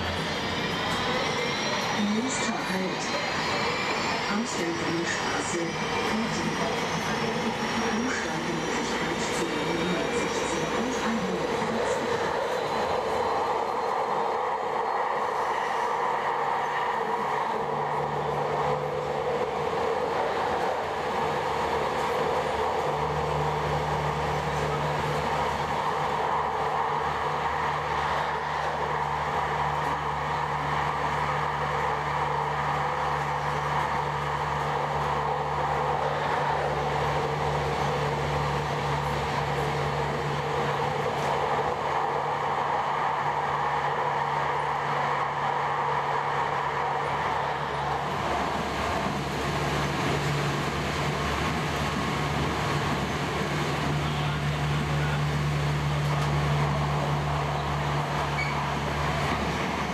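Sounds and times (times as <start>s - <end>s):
tram rumbling on rails: 0.0s - 59.9s.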